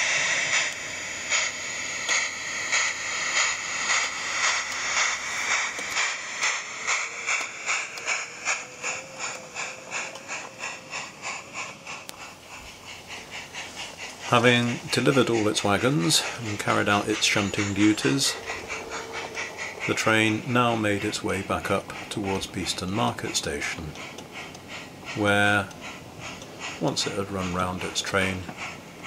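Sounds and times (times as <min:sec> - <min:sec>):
model steam locomotive chuffing: 0:00.0 - 0:29.0.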